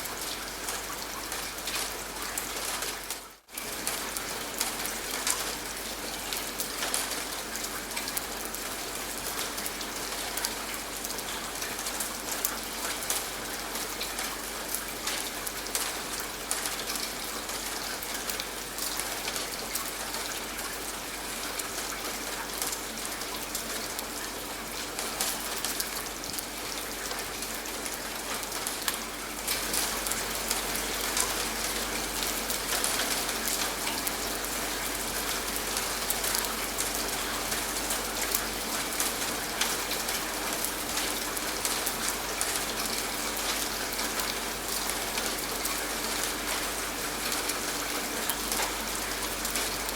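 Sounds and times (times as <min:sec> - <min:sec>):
rain pattering: 0:00.0 - 0:49.9.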